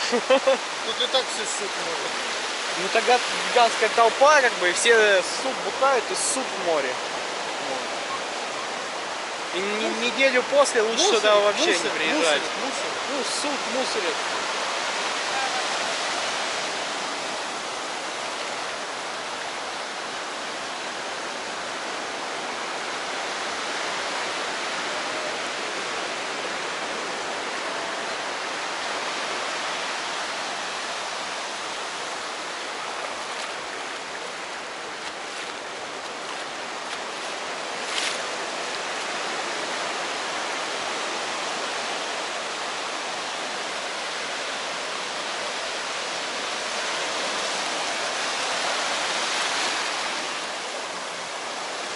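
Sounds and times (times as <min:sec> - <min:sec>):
small waves washing up a beach: 0:00.0 - 0:51.9.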